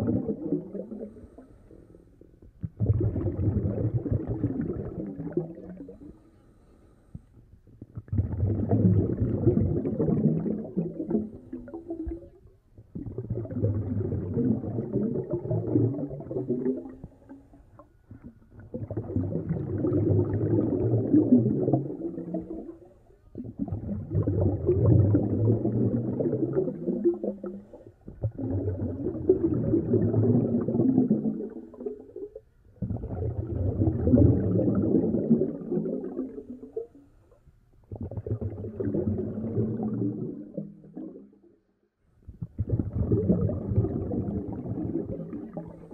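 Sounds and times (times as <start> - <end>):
air bubbling in aquarium: 0.0 - 6.3, 7.6 - 41.4, 42.3 - 45.9.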